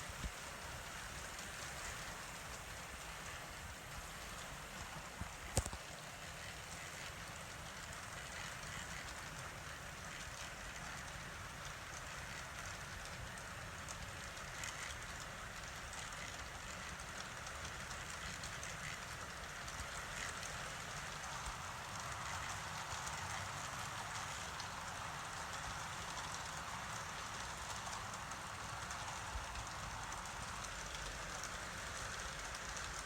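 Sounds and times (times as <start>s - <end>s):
model train motor whirring: 0.0s - 33.0s.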